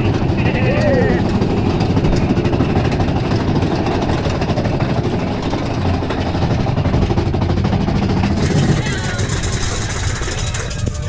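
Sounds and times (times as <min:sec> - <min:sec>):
roller coaster rumbling on rails: 0:00.0 - 0:11.0.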